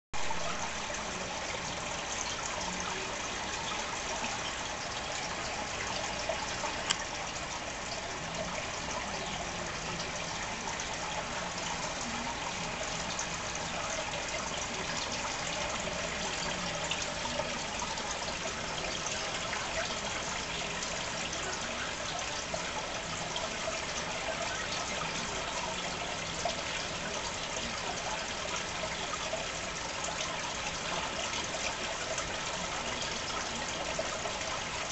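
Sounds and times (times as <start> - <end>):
water trickling in fish tank: 0.2 - 34.9.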